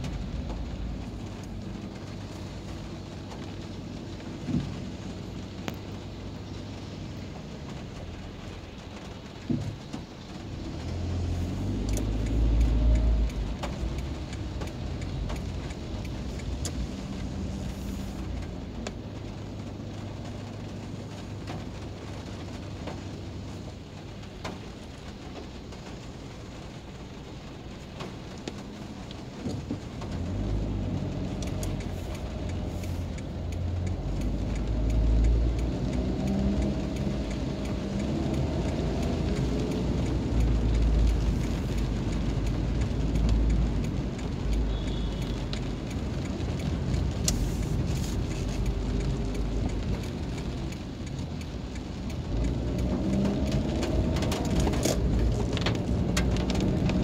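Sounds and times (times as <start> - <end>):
car engine and road rumble: 0.0 - 57.0
raindrops ticking on glass: 0.0 - 57.0
tyres hissing on wet road: 0.0 - 57.0.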